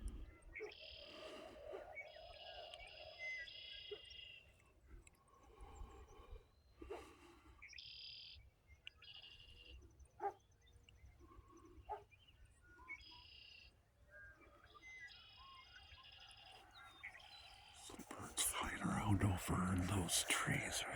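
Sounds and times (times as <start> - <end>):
songbirds calling: 0.0 - 20.9.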